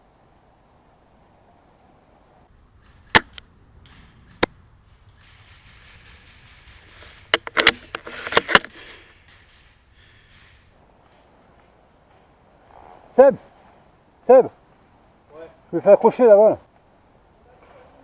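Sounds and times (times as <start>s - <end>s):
rustling hiss: 0.0s - 15.8s.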